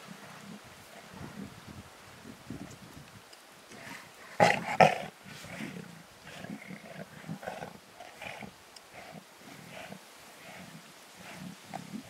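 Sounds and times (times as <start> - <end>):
lions growling: 0.0 - 1.5, 3.7 - 12.0.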